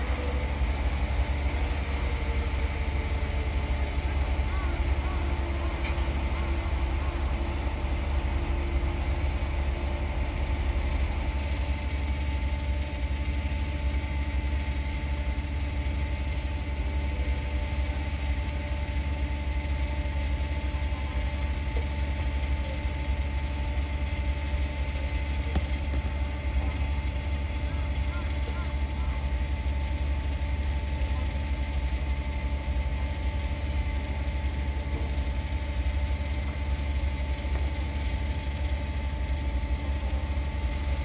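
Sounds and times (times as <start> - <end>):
jet engines idling: 0.0 - 41.0.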